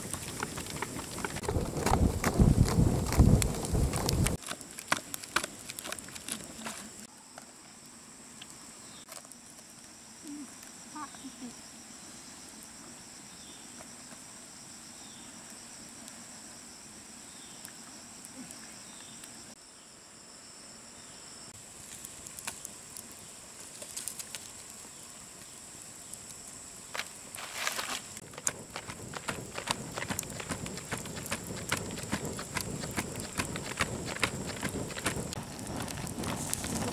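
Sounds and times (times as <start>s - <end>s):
insects trilling: 2.9s - 36.9s.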